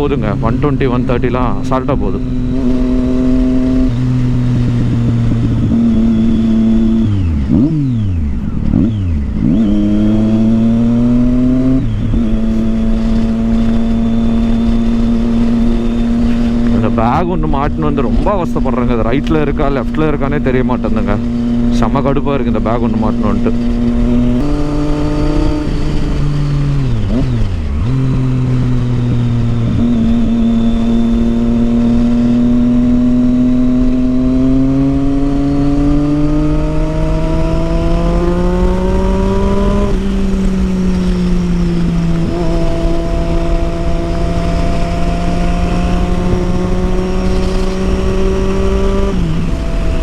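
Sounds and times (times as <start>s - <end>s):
motorcycle engine through loud exhaust: 0.0s - 50.0s.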